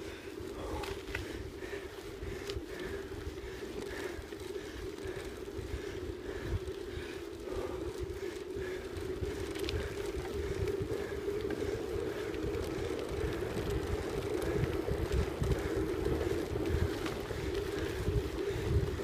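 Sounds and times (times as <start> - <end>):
bicycle tyres humming on sandy track: 0.0 - 19.0
wind buffeting microphone: 0.0 - 19.0.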